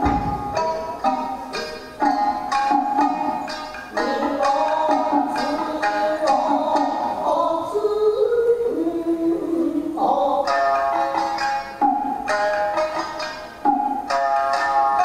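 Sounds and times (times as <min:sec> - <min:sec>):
plucked shamisen music: 0:00.0 - 0:15.0.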